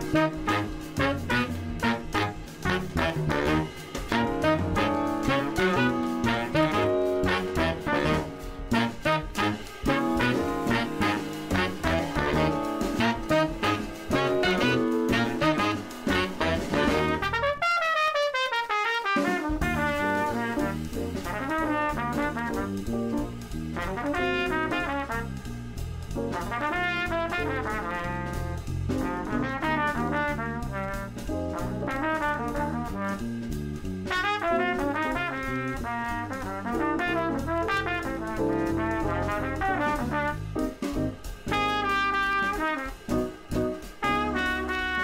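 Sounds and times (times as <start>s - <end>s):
upbeat brass swing jazz: 0.0s - 45.0s.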